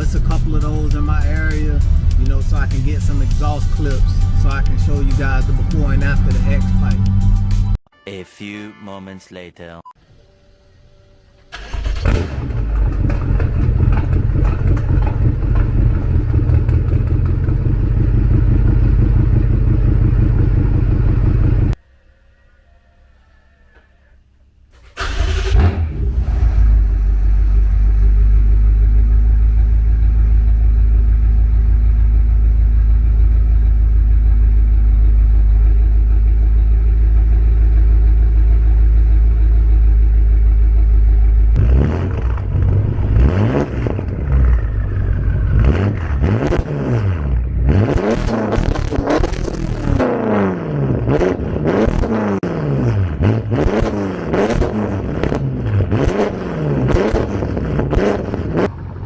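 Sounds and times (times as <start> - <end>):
car engine idling and revving: 0.0 - 7.8, 11.5 - 21.8, 24.8 - 59.0.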